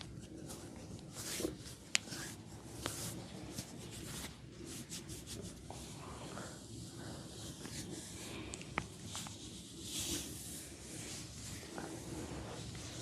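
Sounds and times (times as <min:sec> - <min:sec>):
hands rubbing skin: 0:00.2 - 0:05.9, 0:07.0 - 0:13.0.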